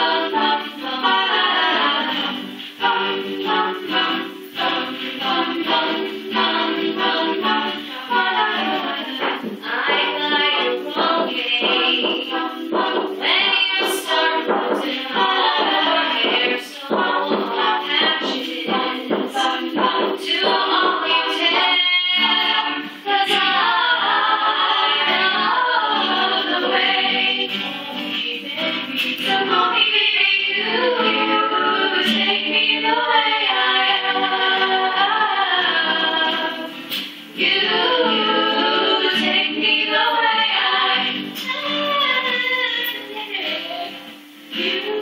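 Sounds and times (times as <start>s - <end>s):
group singing a cappella: 0.0s - 45.0s.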